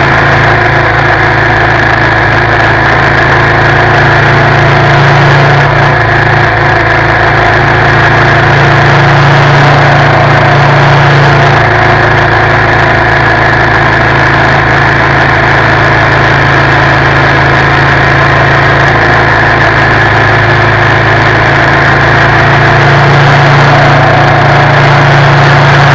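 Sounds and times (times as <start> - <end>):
motorcycle engine running steadily: 0.0 - 25.9.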